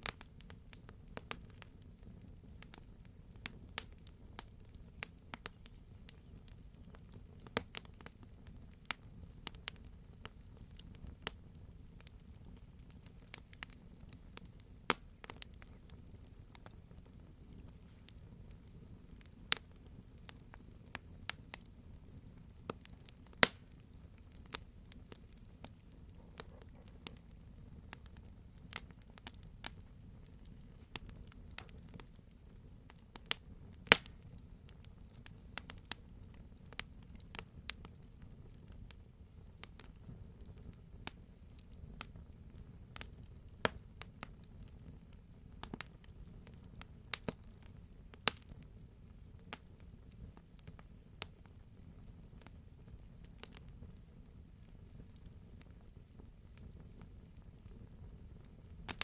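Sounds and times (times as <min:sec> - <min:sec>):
burning logs popping: 0:00.0 - 0:59.0
campfire crackling: 0:00.0 - 0:59.0
low rumble of flames: 0:00.0 - 0:59.0.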